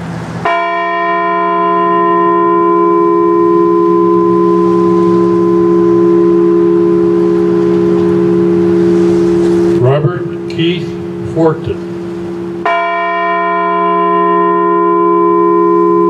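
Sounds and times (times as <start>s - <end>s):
large bell ringing: 0.4s - 16.0s.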